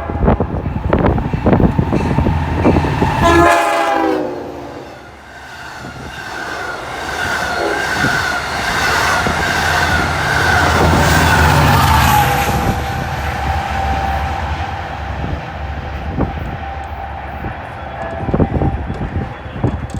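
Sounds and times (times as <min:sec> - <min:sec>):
train horn: 0:00.0 - 0:19.9
train rumble: 0:00.0 - 0:19.9.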